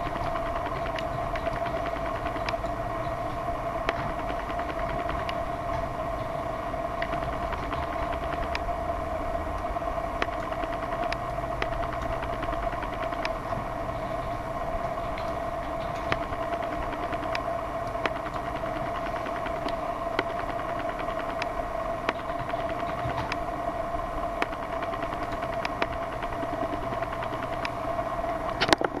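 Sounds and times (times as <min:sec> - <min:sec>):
mechanical hum with drone: 0:00.0 - 0:29.0
sharp clicks: 0:00.0 - 0:29.0.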